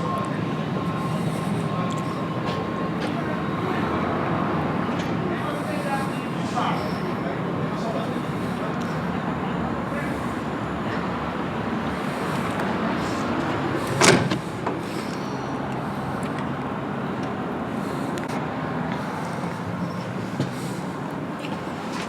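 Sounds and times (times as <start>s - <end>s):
train rumble and rattle: 0.0s - 22.0s.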